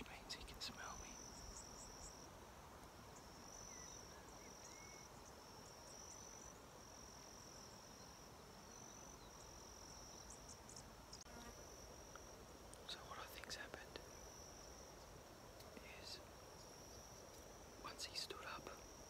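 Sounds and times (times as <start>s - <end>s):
faint chirps: 0.0s - 2.3s, 3.1s - 11.5s, 12.1s - 19.0s
faint insect trilling: 0.0s - 2.3s, 3.1s - 19.0s.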